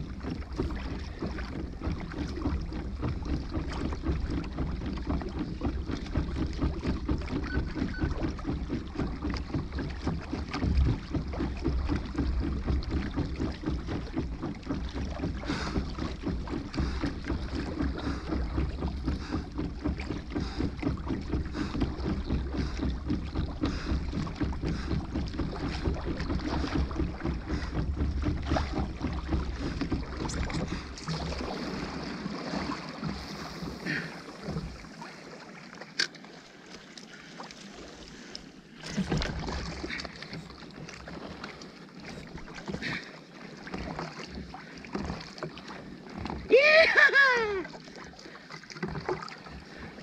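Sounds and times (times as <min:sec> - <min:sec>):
water sloshing against hull: 0:00.0 - 0:50.0.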